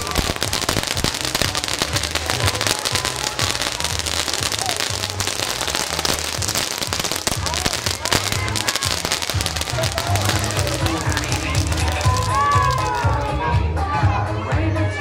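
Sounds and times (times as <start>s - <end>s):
spark fountains hissing and crackling: 0.0s - 13.3s
music bass line: 0.0s - 15.0s.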